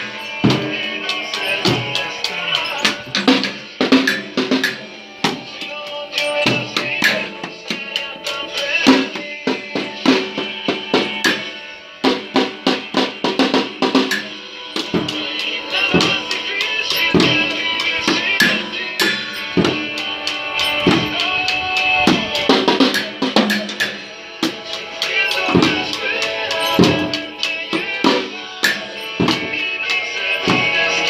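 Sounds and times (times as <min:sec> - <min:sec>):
drum kit played fast: 0:00.0 - 0:31.0
recorded music: 0:00.0 - 0:31.0.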